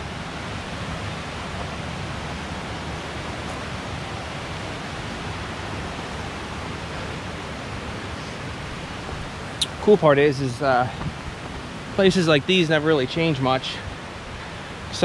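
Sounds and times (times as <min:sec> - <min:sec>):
creek water rushing over stones: 0:00.0 - 0:15.0.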